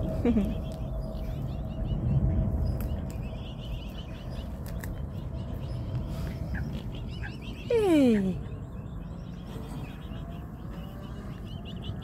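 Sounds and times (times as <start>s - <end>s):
birds twittering: 0.0s - 12.0s
low rumble: 0.0s - 12.0s.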